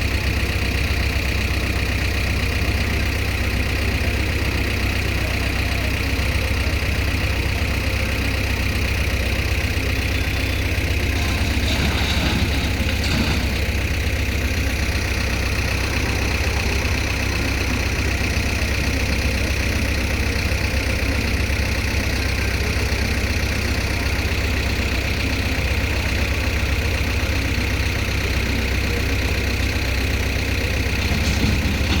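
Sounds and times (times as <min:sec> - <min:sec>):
heavy diesel engine rumbling: 0:00.0 - 0:32.0.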